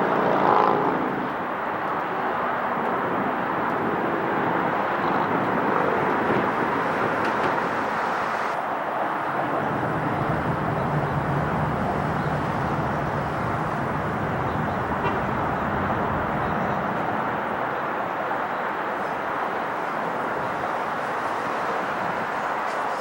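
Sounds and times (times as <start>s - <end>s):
jet engine roar: 3.8s - 23.0s.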